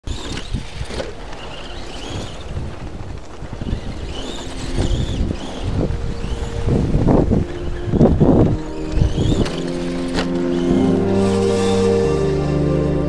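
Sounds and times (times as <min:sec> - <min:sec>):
wind rumbling on microphone: 0:00.0 - 0:12.1
electric motor whining: 0:00.0 - 0:13.0.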